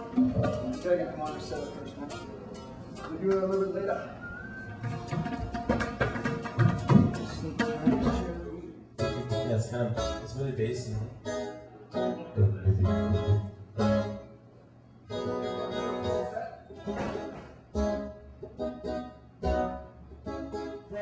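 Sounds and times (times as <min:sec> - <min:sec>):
guitar strumming bassy chords: 0:00.0 - 0:03.8, 0:04.7 - 0:14.4, 0:15.1 - 0:21.0.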